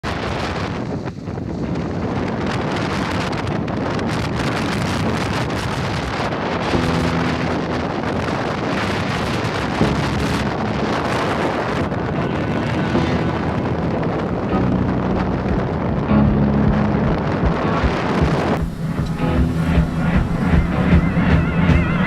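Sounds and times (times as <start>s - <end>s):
wind buffeting microphone: 0.0s - 22.0s
rushing water: 1.7s - 22.0s.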